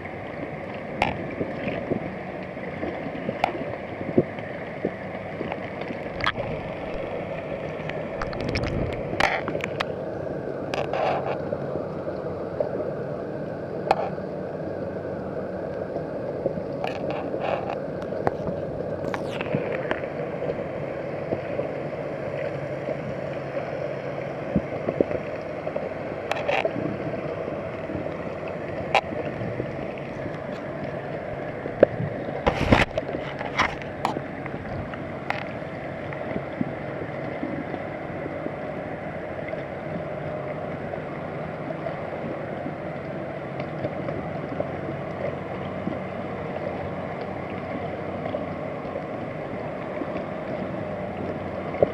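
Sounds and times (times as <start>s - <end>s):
muffled underwater rush: 0.0s - 51.9s.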